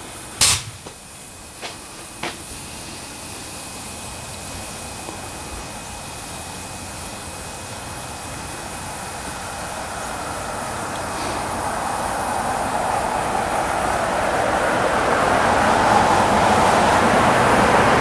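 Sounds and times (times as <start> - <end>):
loud steam bursts: 0.0 - 18.0
steam hissing from boiler: 0.0 - 18.0.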